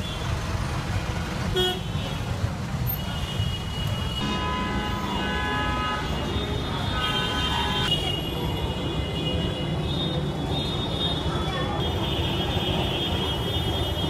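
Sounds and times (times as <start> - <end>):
street traffic rumbling: 0.0 - 14.0
vehicle horns honking: 1.5 - 14.0.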